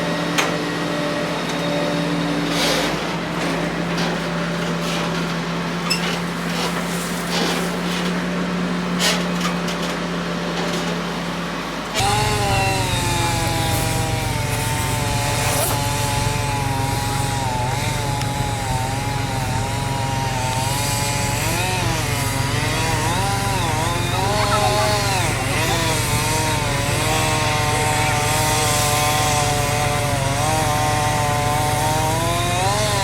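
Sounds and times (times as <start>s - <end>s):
chainsaw cutting a tree: 0.0s - 8.2s, 11.5s - 33.0s
engine running steadily: 0.0s - 33.0s.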